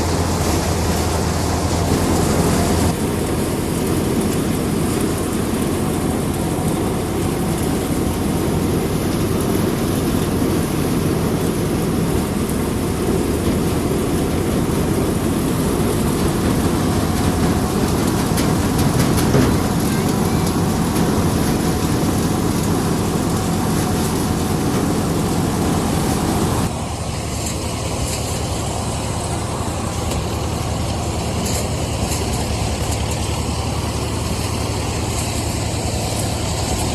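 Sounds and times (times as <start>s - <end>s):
rushing mechanical noise: 0.0s - 36.9s
tractor diesel engine running: 0.0s - 36.9s.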